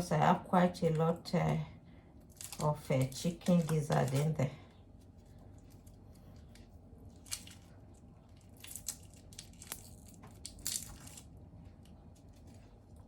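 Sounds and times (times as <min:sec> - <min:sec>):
crackling and rustling of food items: 0:00.0 - 0:13.0.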